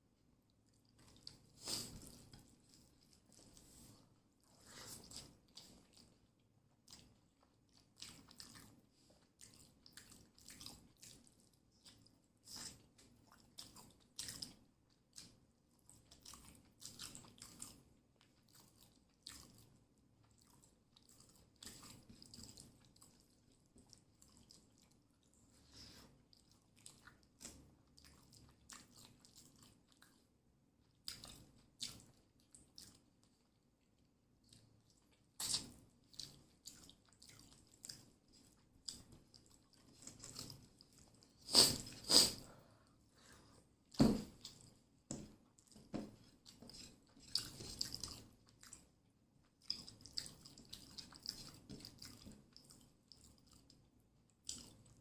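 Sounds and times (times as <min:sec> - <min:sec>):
person chewing with mouth clicks: 0:06.8 - 0:25.4, 0:26.0 - 0:30.2, 0:30.8 - 0:33.5, 0:34.4 - 0:42.5, 0:44.2 - 0:55.0.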